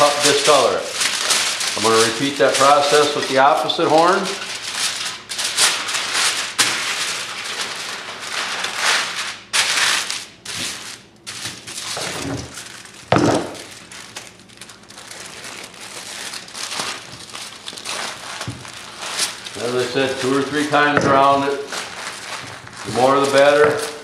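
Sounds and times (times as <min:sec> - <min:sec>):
aluminum foil crinkling: 0:00.0 - 0:24.0.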